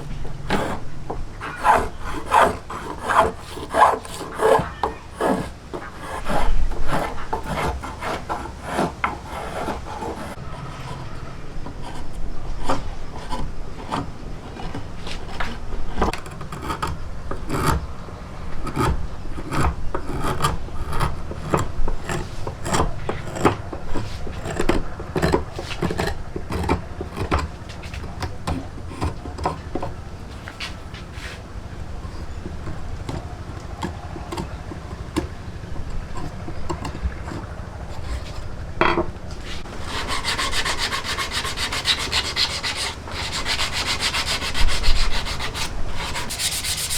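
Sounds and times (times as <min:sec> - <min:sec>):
hand tool scraping wood: 0:00.0 - 0:17.8, 0:18.7 - 0:31.5, 0:32.1 - 0:38.6, 0:39.3 - 0:46.9.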